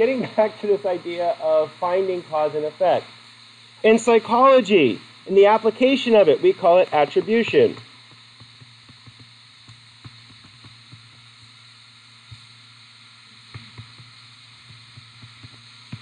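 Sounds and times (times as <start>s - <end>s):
low steady hum and hiss: 0.0s - 16.0s.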